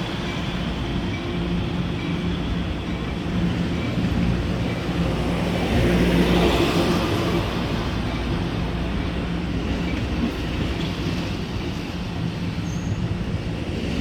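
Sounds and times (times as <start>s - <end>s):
diesel train engine humming: 0.0s - 14.0s.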